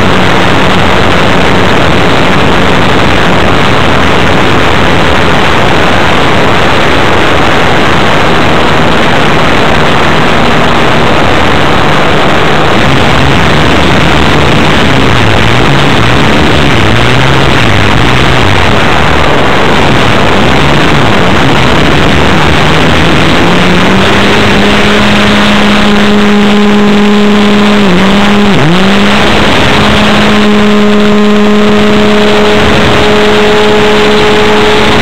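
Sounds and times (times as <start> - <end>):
model airplane engine running: 0.0 - 35.0.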